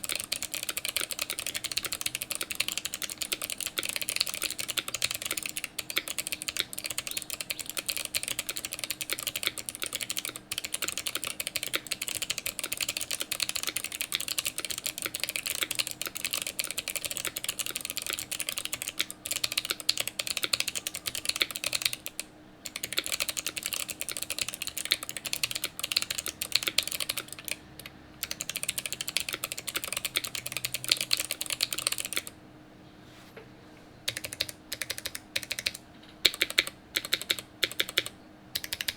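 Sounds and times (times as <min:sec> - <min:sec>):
fast typing on mechanical keyboard: 0:00.0 - 0:32.3, 0:34.1 - 0:38.9.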